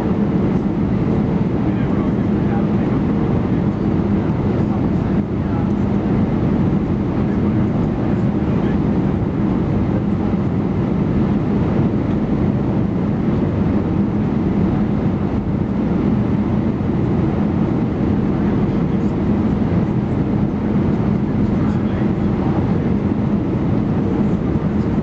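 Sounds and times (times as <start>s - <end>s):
airliner cabin engine rumble: 0.0s - 25.0s
constant low hum: 0.0s - 25.0s.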